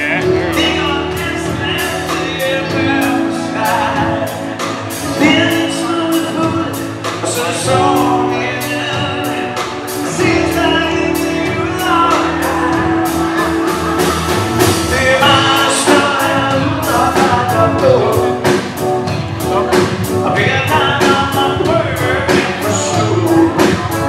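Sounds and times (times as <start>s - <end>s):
drums and cymbals beat: 0.0s - 24.0s
guitar: 0.0s - 24.0s
person singing: 0.0s - 24.0s.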